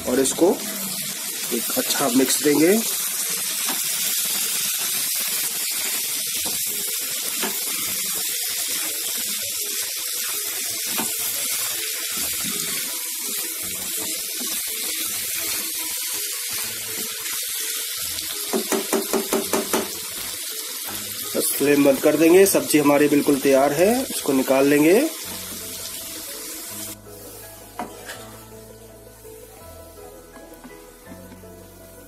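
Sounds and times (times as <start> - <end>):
sizzling hiss: 0.0 - 32.0.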